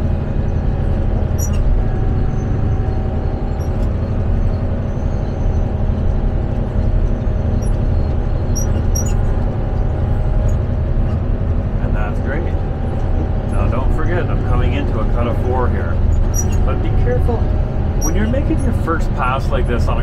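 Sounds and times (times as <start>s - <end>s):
diesel engine droning under load: 0.0s - 20.0s.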